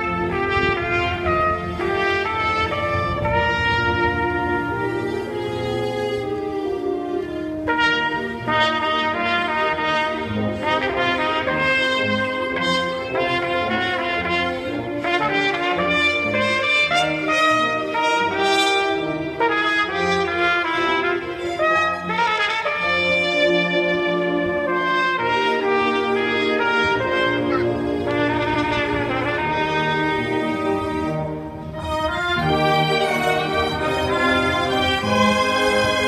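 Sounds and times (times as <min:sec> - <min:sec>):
low brass chords: 0:00.0 - 0:36.0
solo trumpet melody: 0:00.0 - 0:36.0.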